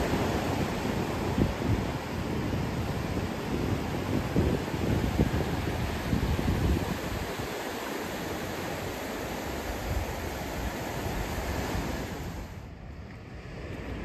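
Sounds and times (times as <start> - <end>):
surf washing over cobble beach: 0.0 - 14.0
wind buffeting microphone: 0.0 - 14.0.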